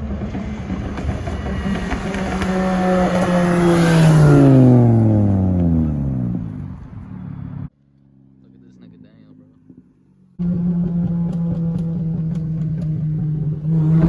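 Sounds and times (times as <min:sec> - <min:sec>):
car exhaust passing at speed: 0:00.0 - 0:14.0.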